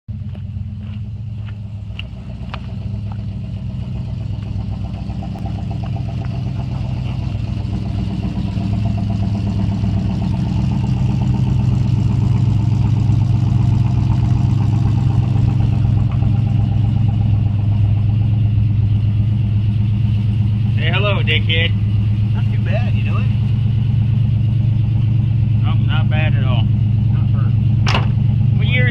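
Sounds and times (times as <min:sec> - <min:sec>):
car engine running: 0:00.1 - 0:28.9.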